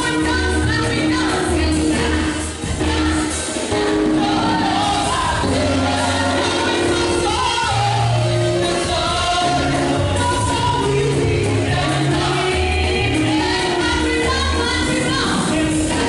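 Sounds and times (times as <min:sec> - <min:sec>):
instrumental accompaniment with bass: 0:00.0 - 0:16.0
church choir singing: 0:01.9 - 0:16.0.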